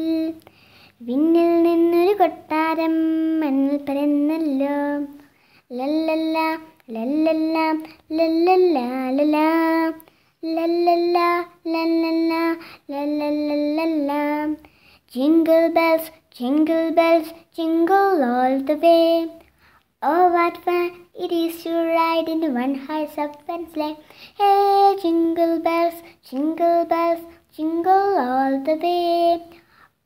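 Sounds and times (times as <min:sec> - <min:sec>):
child singing: 0:00.0 - 0:29.7.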